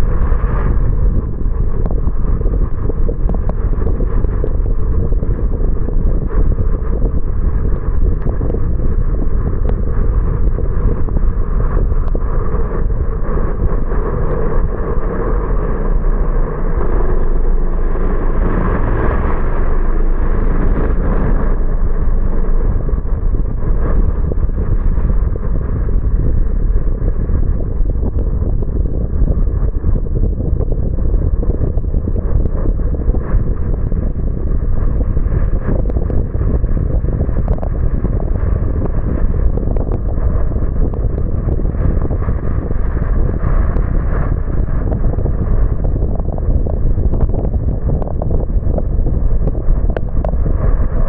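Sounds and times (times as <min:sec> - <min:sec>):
car tyres on wet road: 0:00.0 - 0:51.0.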